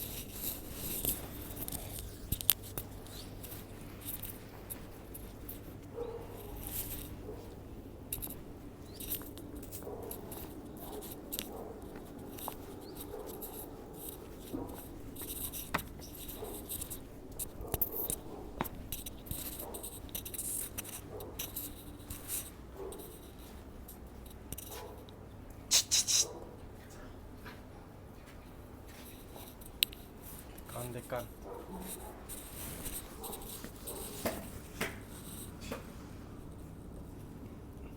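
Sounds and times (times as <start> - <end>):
puppies scratching and rustling: 0.0 - 25.1, 26.8 - 37.4.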